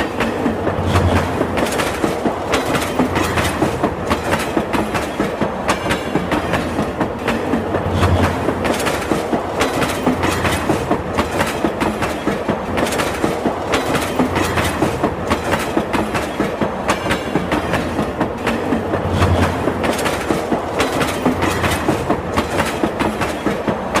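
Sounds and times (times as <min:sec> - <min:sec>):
train rumble: 0:00.0 - 0:24.0
train wheels clickety-clack: 0:00.0 - 0:24.0.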